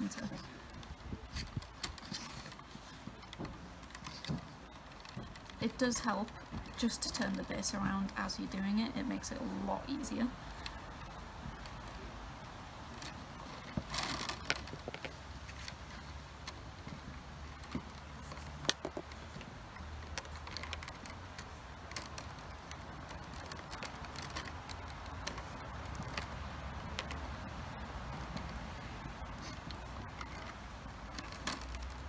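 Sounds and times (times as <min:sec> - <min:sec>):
willow rods clicking and creaking: 0:00.0 - 0:32.0.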